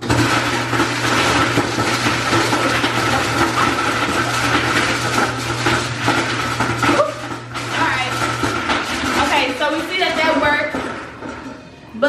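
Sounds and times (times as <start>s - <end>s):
garbage disposal grinding: 0.0s - 12.0s.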